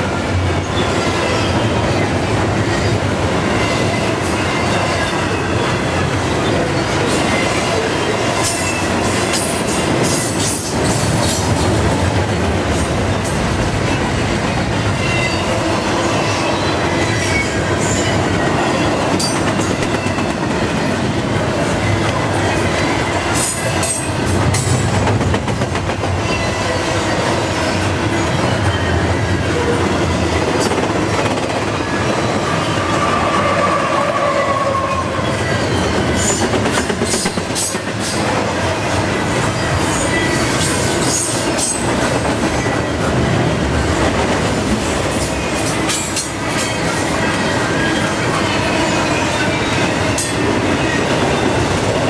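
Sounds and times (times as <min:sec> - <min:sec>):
diesel locomotive passing: 0:00.0 - 0:52.0
freight train wheels rumbling: 0:00.0 - 0:52.0.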